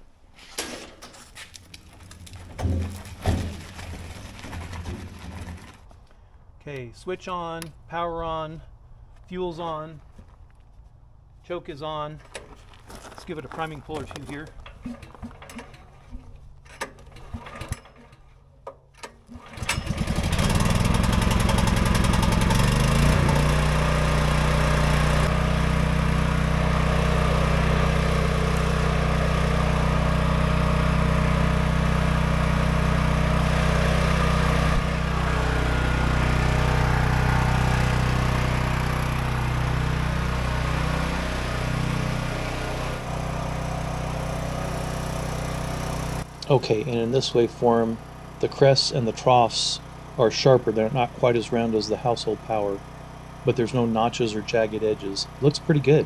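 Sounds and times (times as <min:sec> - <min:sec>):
recoil starter pulls: 0:00.5 - 0:06.2, 0:12.2 - 0:56.0
generator engine running: 0:01.4 - 0:06.6, 0:11.1 - 0:56.0.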